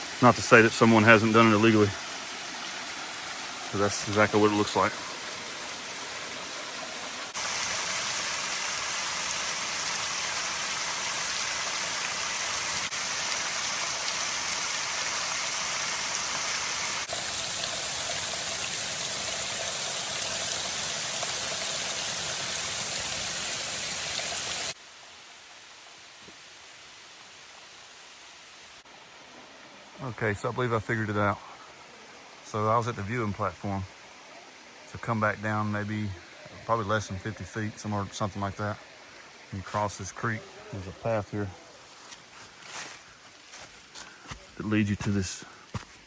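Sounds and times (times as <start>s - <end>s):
small waterfall splashing: 0.0s - 24.8s, 27.2s - 44.4s.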